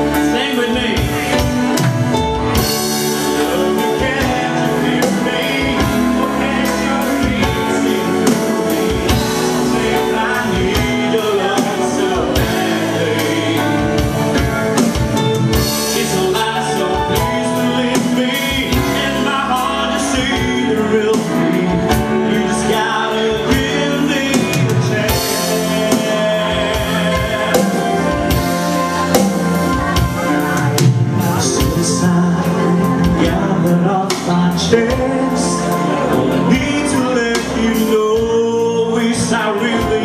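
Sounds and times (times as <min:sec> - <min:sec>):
drum kit beat: 0:00.0 - 0:40.0
live band playing: 0:00.0 - 0:40.0.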